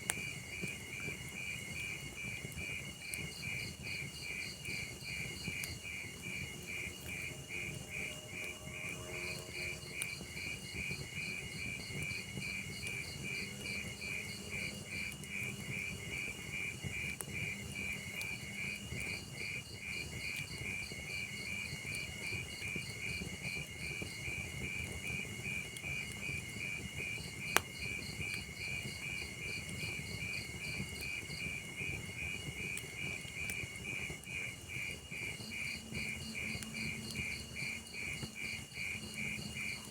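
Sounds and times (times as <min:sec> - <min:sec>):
fire popping: 0:00.0 - 0:39.9
log fire rumbling: 0:00.0 - 0:39.9
crickets chirping: 0:00.1 - 0:39.9.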